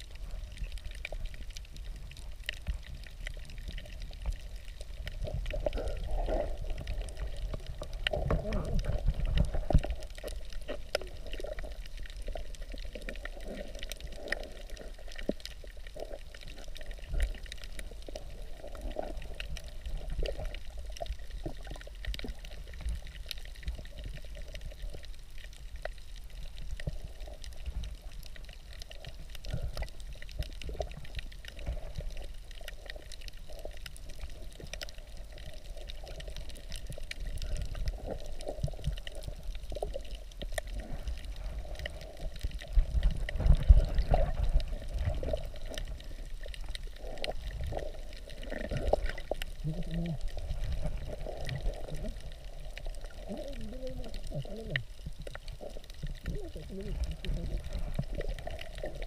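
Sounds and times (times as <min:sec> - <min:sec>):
muffled underwater water wash: 0:00.0 - 0:59.0
small underwater clicks: 0:00.0 - 0:59.0.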